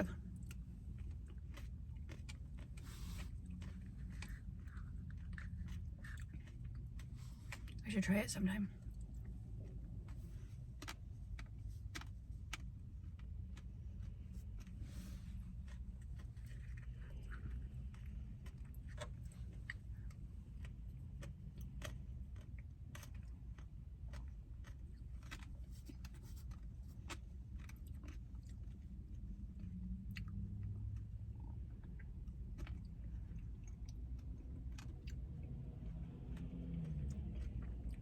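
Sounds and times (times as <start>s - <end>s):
person chewing: 0.0s - 7.8s, 8.8s - 38.0s
steady low hum: 0.0s - 38.0s.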